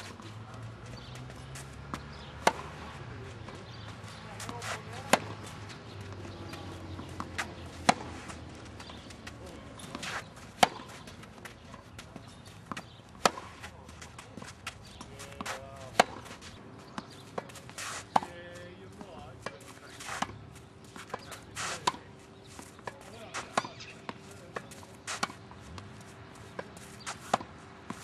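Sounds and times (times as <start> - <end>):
racquets hitting tennis balls: 0.0 - 28.0
tennis ball bouncing: 0.0 - 28.0.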